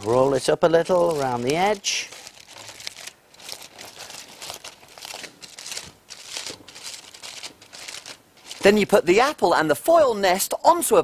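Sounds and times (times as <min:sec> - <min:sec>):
aluminium foil crinkling: 0:00.0 - 0:09.0.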